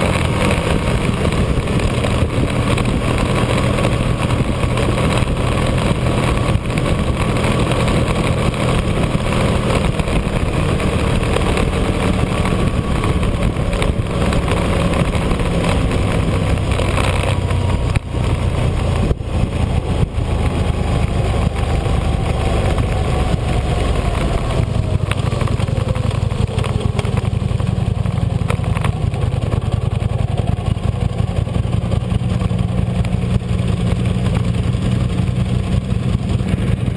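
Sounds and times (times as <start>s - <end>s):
motorcycle engine running: 0.0s - 36.9s
wind noise on microphone: 0.0s - 36.9s.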